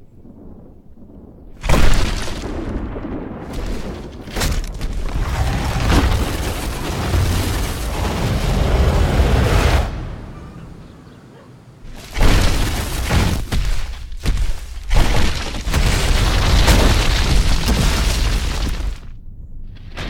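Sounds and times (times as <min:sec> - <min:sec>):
rock crashing boom: 0:00.2 - 0:10.4, 0:11.8 - 0:20.0
deep rumble of moving stone: 0:01.0 - 0:10.4, 0:11.9 - 0:20.0.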